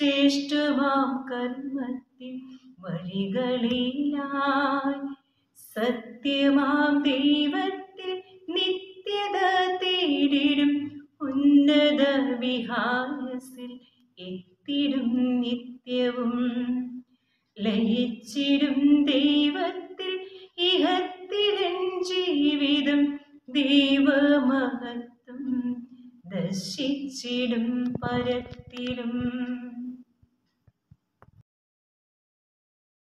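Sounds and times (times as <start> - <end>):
woman singing a poem: 0.0 - 17.0, 17.6 - 30.0.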